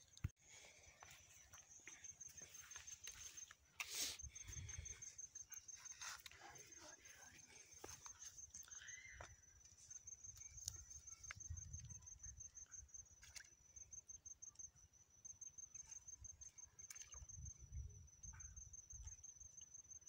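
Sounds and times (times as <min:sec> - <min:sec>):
high-pitched insect chirping: 0:01.0 - 0:20.0.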